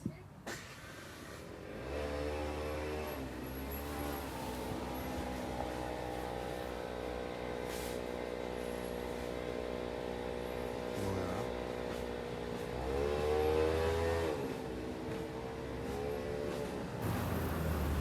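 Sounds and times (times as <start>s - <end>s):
vehicle engine running and revving: 1.6s - 7.7s, 8.3s - 18.0s.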